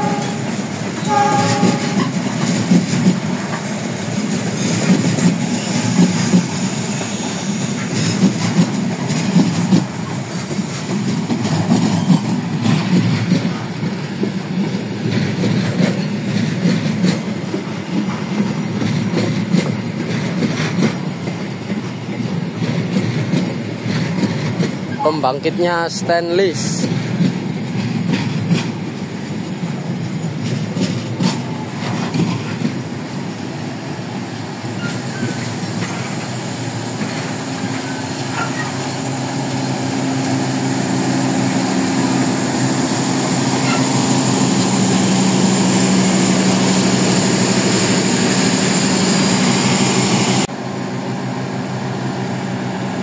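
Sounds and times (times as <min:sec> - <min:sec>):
wheels clacking over rail joints: 0:00.0 - 0:50.5.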